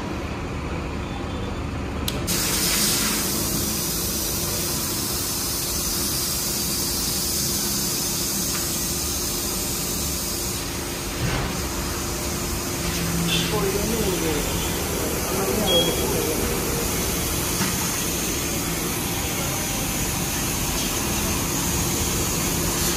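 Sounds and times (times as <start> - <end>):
steady hiss: 2.3 - 22.9.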